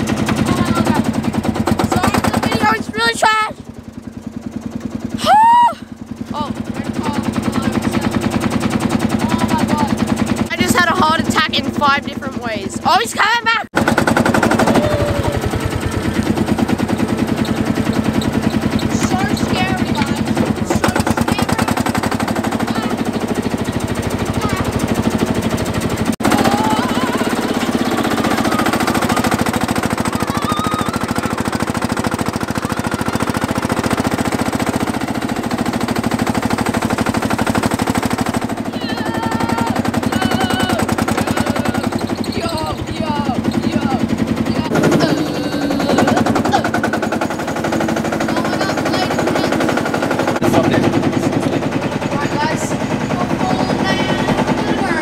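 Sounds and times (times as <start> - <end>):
tractor engine chugging: 0.0 - 55.0.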